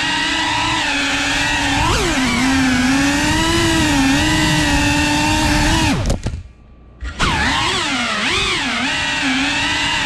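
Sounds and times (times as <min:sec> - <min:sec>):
drone propellers whining: 0:00.0 - 0:06.3, 0:07.0 - 0:10.0.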